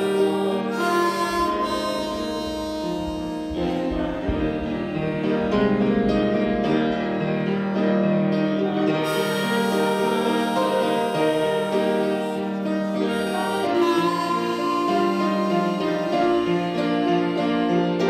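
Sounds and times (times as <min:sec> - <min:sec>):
harmonica through a microphone: 0:00.0 - 0:06.9, 0:08.6 - 0:18.0
keyboard accompaniment: 0:00.0 - 0:18.0.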